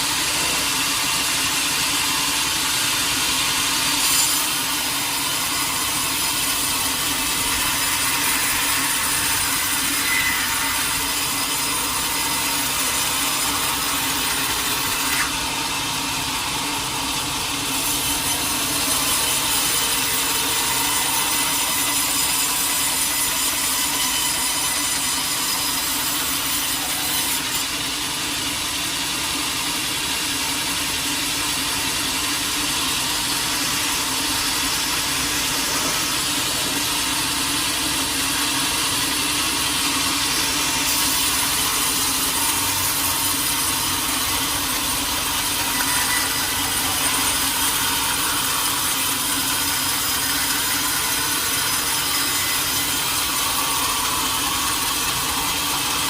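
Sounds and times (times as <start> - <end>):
saw cutting through log: 0.0 - 56.0.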